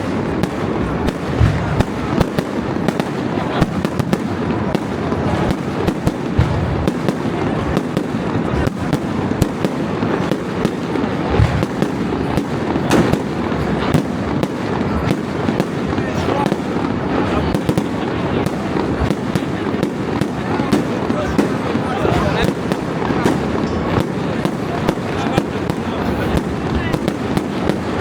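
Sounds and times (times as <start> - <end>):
fireworks bangs and crackles: 0.0 - 28.0
heavy firework booms: 0.0 - 28.0.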